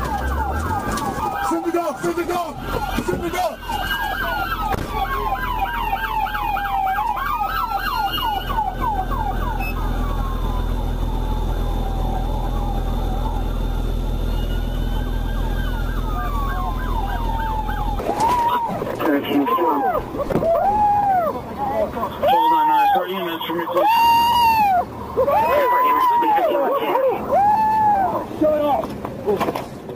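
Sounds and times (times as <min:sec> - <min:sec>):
police siren yelping: 0:00.0 - 0:28.8
police siren wailing: 0:00.0 - 0:28.9.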